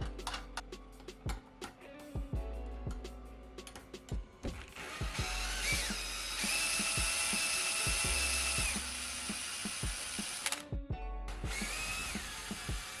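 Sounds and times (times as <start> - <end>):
background music with beat: 0.0 - 13.0.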